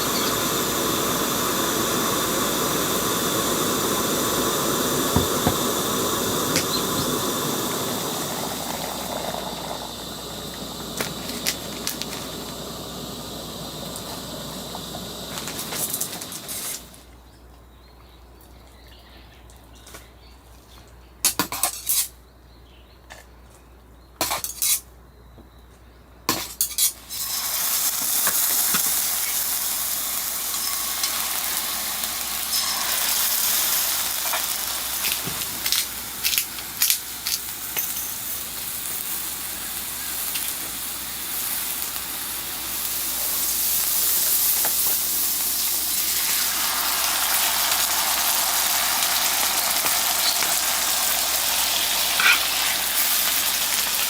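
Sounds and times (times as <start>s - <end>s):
wood fire crackling: 0.0s - 17.1s, 27.1s - 54.0s.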